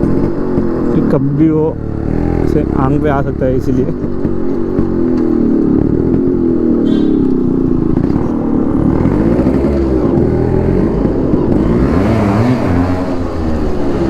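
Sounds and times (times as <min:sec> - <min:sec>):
two-stroke motorcycle engine revving: 0:00.0 - 0:14.0
wind and road noise: 0:00.0 - 0:14.0.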